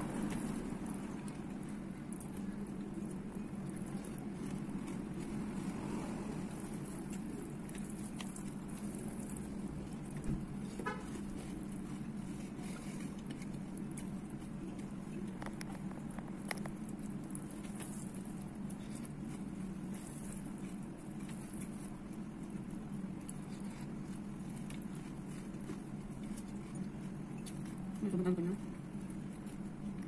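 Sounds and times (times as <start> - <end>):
chewing crunchy cereal: 0.0 - 28.0, 28.6 - 30.0
steady low hum: 0.0 - 30.0.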